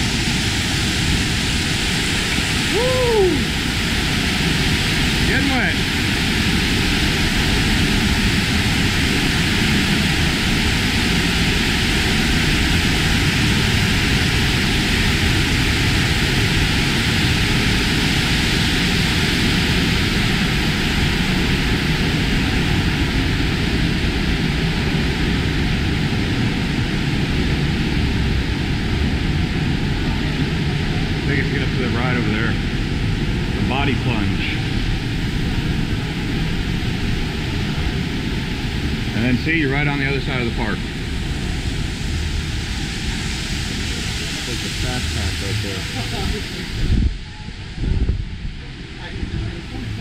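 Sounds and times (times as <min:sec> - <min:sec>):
waterfall rushing: 0:00.0 - 0:47.8, 0:48.4 - 0:50.0.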